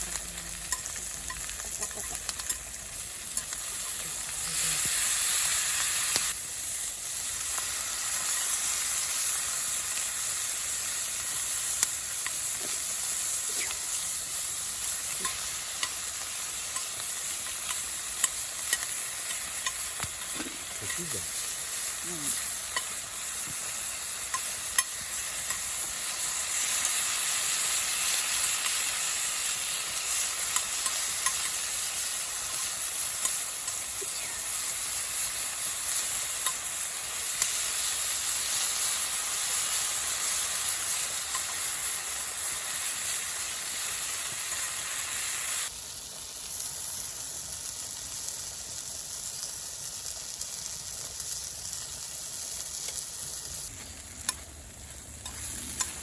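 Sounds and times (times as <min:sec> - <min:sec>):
food sizzling: 0:00.0 - 0:56.0.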